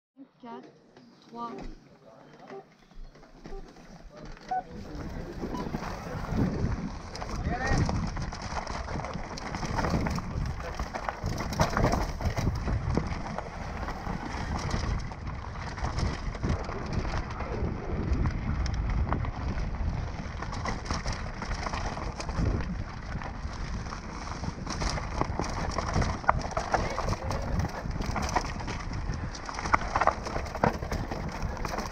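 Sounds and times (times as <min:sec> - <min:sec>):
bike rattling over rocks: 0:03.5 - 0:31.9
wind rumbling on microphone: 0:03.5 - 0:31.9.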